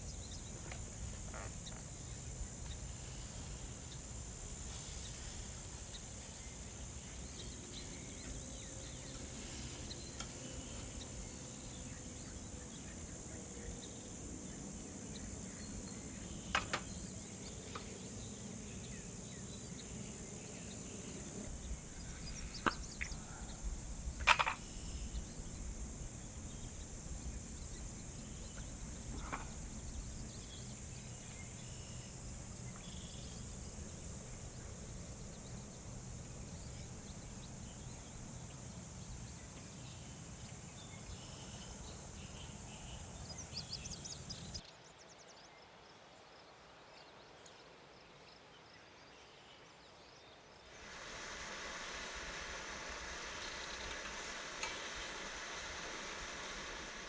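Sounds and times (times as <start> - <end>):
crickets chirring: 0.0 - 44.7, 50.1 - 57.0
low outdoor background: 0.0 - 48.6, 49.7 - 57.0.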